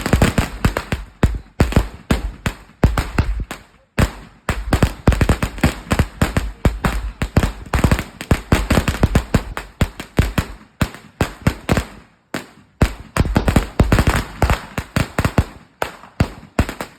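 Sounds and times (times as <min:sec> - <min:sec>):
string of firecrackers banging: 0:00.0 - 0:16.9.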